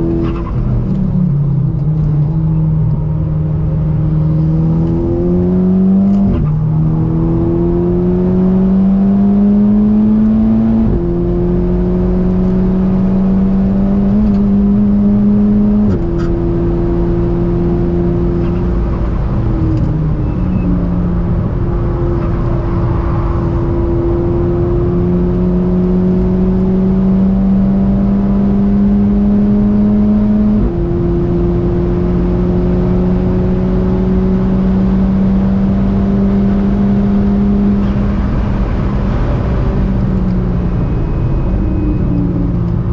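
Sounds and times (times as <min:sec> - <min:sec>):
tyre and road noise: 0:00.0 - 0:27.3, 0:33.4 - 0:42.9
car engine pulling hard: 0:00.0 - 0:42.9.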